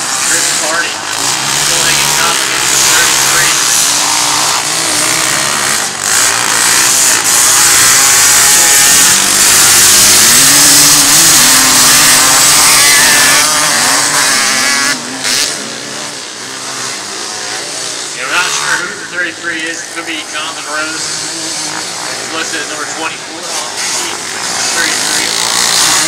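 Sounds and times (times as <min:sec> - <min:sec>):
racing engines revving: 0:00.0 - 0:26.0.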